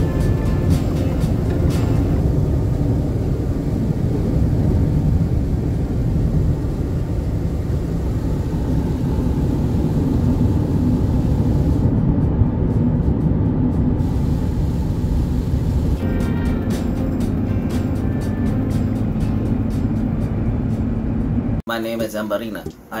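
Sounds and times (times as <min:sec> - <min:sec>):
car cabin road rumble: 0:00.0 - 0:21.6.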